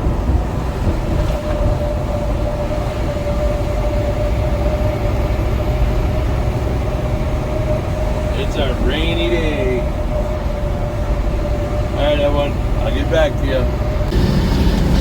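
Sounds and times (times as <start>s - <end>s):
road rumble: 0.0s - 15.0s
truck engine drone: 0.0s - 15.0s
thin steady whine: 1.9s - 15.0s.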